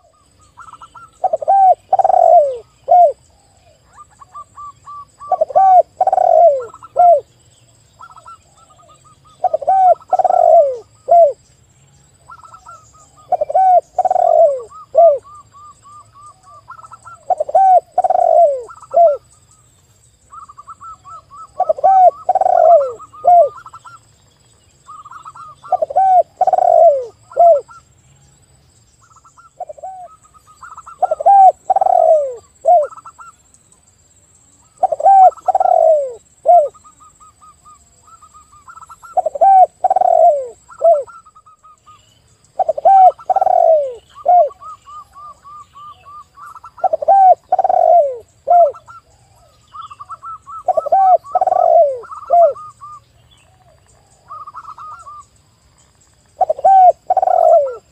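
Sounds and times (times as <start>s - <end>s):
doves cooing: 0.0s - 7.3s, 8.0s - 11.4s, 12.2s - 19.3s, 20.3s - 24.1s, 24.9s - 27.8s, 29.1s - 33.3s, 34.6s - 42.0s, 42.6s - 55.3s, 56.4s - 57.9s.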